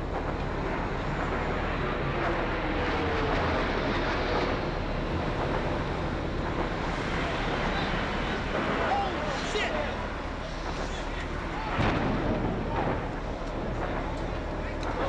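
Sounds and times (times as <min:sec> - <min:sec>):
jet engine rushing: 0:00.8 - 0:15.0.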